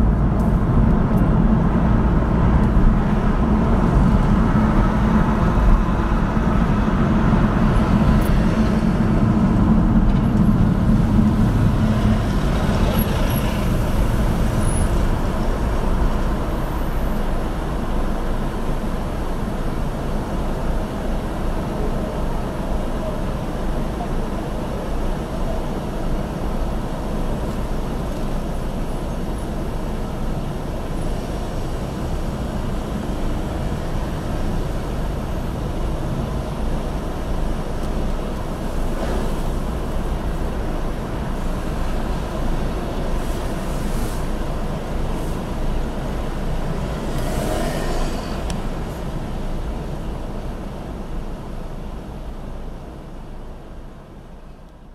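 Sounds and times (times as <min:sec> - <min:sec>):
car idling in traffic: 0:00.0 - 0:54.9.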